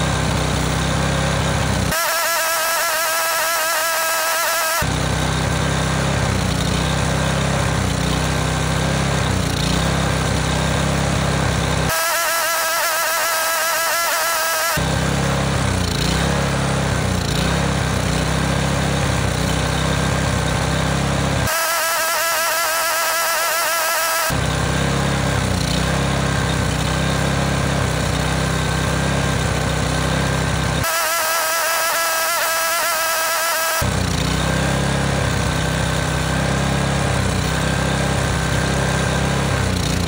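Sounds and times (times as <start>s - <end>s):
small engine surging: 0.0s - 40.0s.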